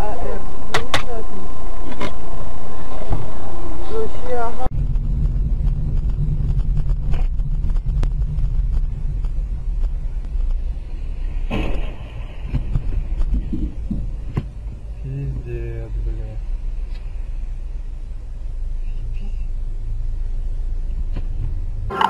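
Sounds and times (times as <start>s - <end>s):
car driving rumble: 0.0s - 22.0s.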